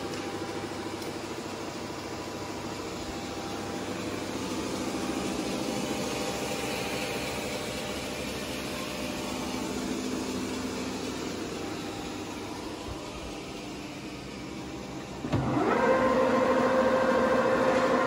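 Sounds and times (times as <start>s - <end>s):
lathe humming: 0.0s - 18.0s.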